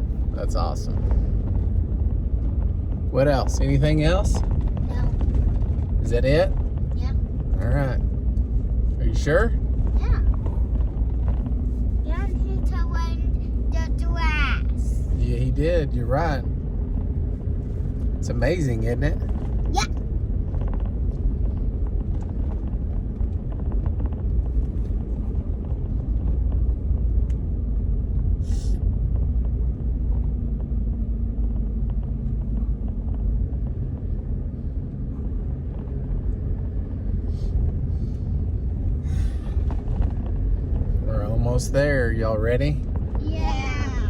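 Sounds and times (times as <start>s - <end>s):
road and engine rumble: 0.0s - 44.0s.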